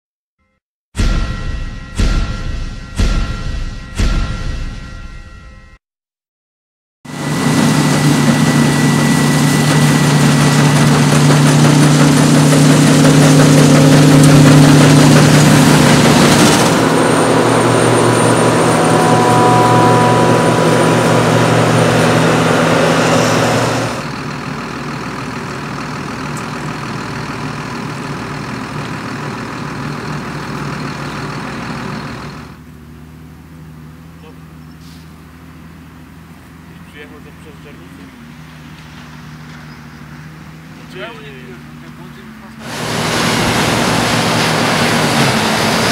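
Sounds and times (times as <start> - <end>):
heavy diesel engines humming: 7.1 - 45.9.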